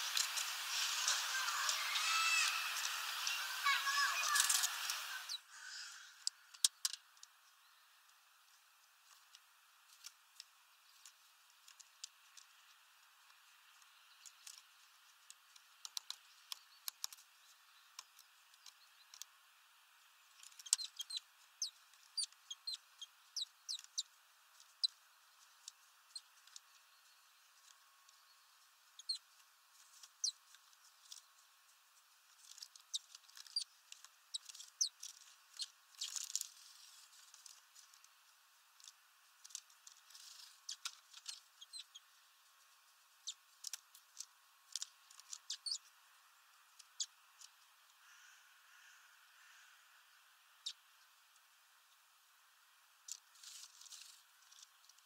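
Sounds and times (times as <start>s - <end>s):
birds ticking and chipping: 0.0s - 52.1s.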